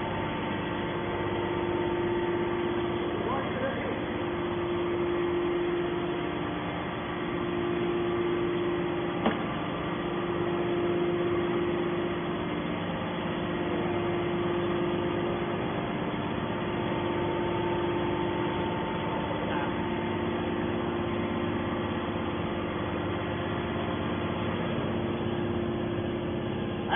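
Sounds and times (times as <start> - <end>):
hydraulic pump humming: 0.0 - 26.9.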